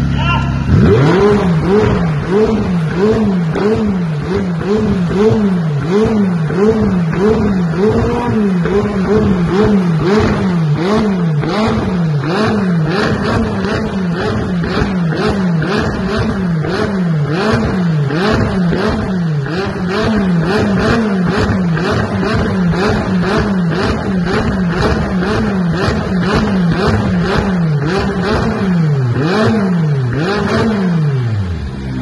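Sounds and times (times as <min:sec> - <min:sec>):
car engine revving: 0:00.0 - 0:32.0
exhaust pops: 0:00.7 - 0:28.6.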